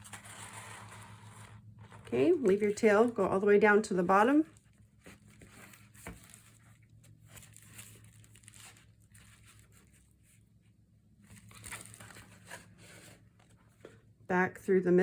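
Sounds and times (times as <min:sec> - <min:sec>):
paper rustling and crinkling: 0:00.0 - 0:03.3, 0:04.4 - 0:10.6, 0:11.2 - 0:14.0.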